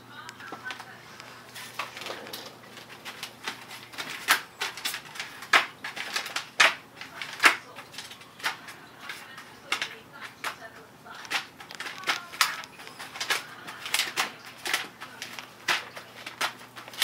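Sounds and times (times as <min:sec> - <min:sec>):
cat shoving small items: 0:00.3 - 0:17.0
paper rustling and crinkling: 0:00.3 - 0:17.0.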